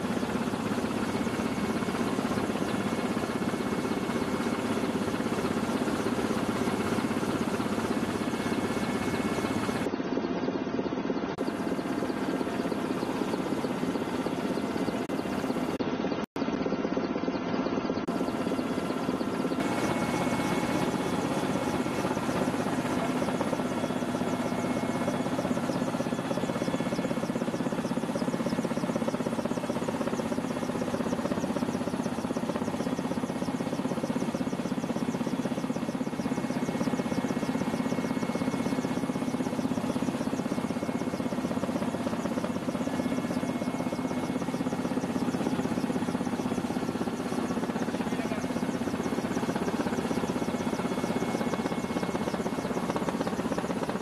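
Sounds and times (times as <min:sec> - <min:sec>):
helicopter engine and rotor: 0:00.0 - 0:54.0.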